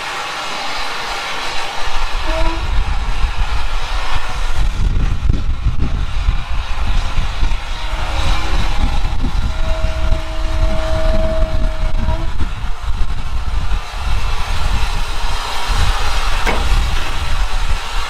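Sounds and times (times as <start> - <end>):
steam locomotive rumbling: 0.0 - 18.0.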